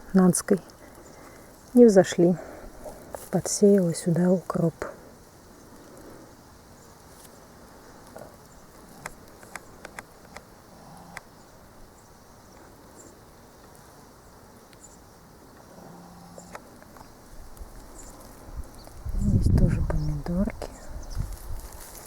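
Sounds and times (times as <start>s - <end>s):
faint insects buzzing: 0.0s - 22.0s.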